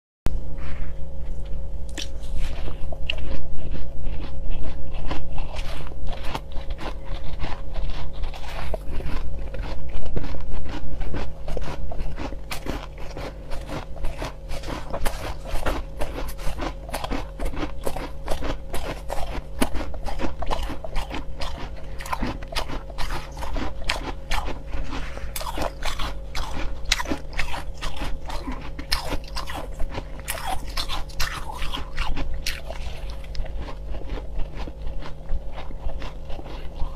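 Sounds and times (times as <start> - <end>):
steady low hum: 0.3 - 36.9
crunching crushed ice: 2.0 - 36.9.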